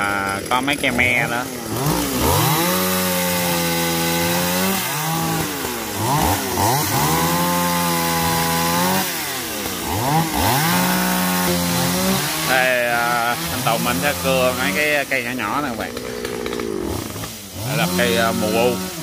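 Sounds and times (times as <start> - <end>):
chainsaw cutting logs: 0.0 - 19.0.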